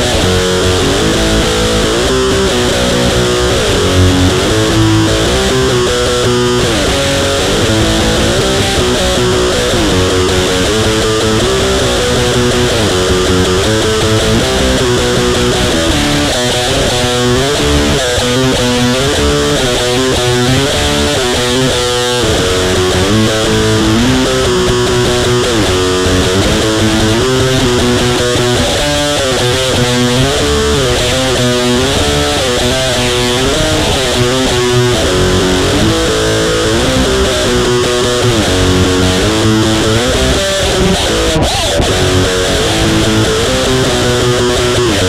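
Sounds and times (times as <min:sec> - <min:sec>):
distorted electric guitar riff: 0:00.0 - 0:45.0.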